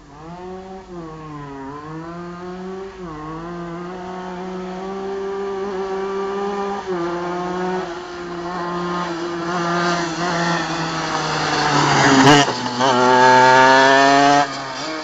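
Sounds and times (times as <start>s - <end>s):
go-kart two-stroke engine running: 0.0s - 15.0s.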